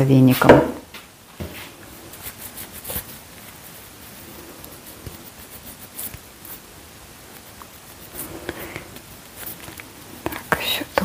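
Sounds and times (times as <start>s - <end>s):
rubber-gloved hands rustling: 1.4s - 11.0s.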